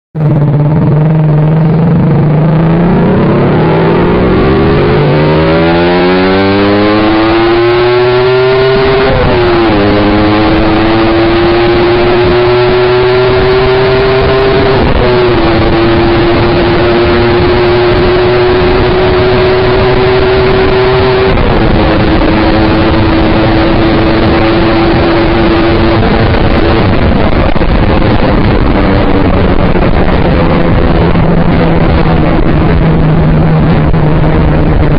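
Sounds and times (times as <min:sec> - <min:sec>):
motorcycle engine accelerating: 0:00.2 - 0:34.9
wind noise: 0:00.2 - 0:34.9.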